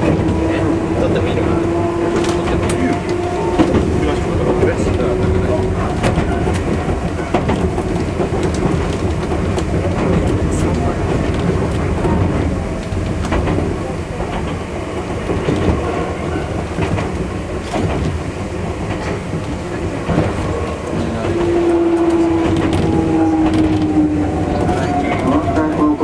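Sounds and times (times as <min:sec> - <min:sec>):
electric train running: 0:00.0 - 0:26.0
wheels clicking over rail joints: 0:00.0 - 0:26.0.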